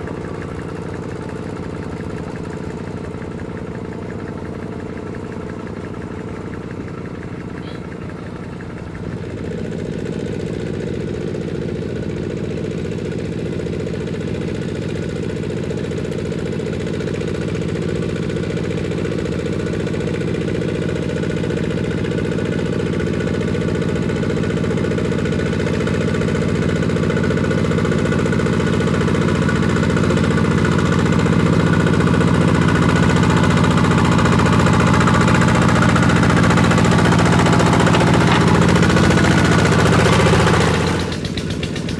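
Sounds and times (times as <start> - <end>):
diesel tractor engine knocking: 0.0 - 41.9.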